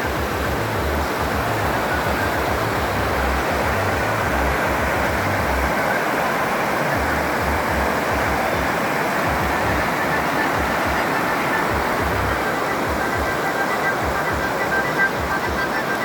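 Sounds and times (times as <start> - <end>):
wind buffeting microphone: 0.0 - 15.8
waterfall rushing over rocks: 0.0 - 16.0.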